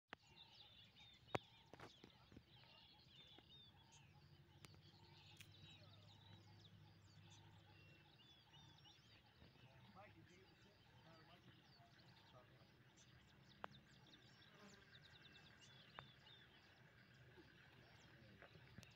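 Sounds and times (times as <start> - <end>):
small birds chirping and trilling: 0.1 - 18.9
low steady hum: 0.2 - 18.9.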